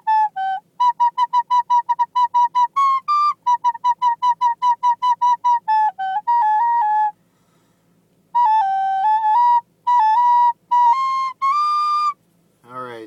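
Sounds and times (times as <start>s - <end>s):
recorder playing notes: 0.0s - 7.2s, 8.3s - 12.2s.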